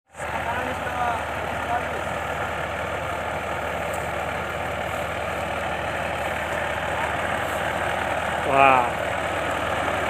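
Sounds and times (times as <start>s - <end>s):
diesel engine idling: 0.1s - 10.0s.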